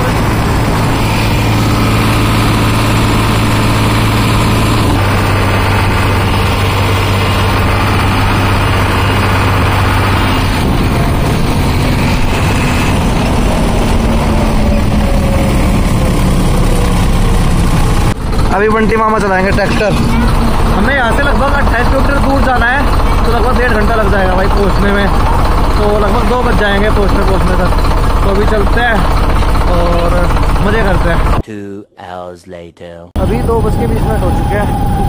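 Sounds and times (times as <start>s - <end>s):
tractor diesel engine running: 0.0s - 31.4s, 33.2s - 35.0s.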